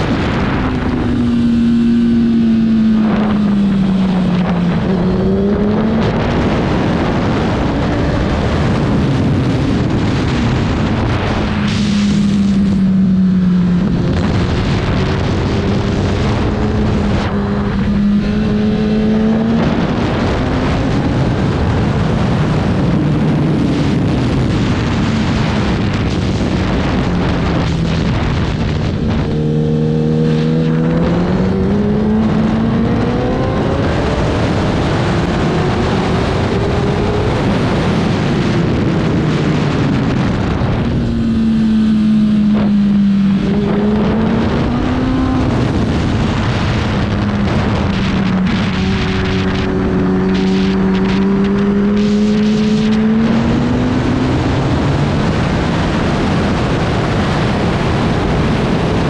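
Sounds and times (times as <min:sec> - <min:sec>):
racing motorcycle engine: 0:00.0 - 0:59.0.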